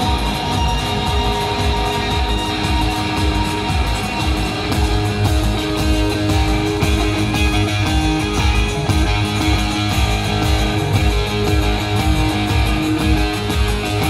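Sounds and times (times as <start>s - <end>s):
electric guitar: 0.0s - 14.0s
live band playing: 0.0s - 14.0s.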